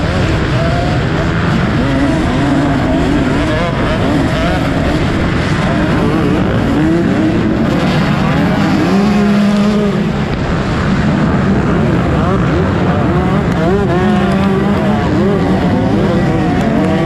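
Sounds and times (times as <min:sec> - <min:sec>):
motocross engines revving: 0:00.0 - 0:17.0.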